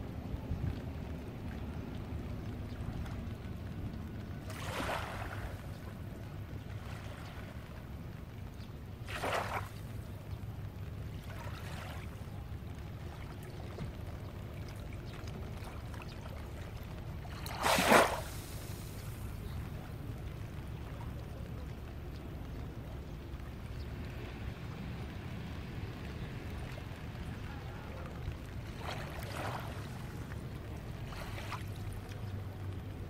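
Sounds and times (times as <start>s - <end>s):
steady low rumble: 0.0s - 9.1s, 9.7s - 33.0s
small waves lapping on shore: 0.0s - 33.0s.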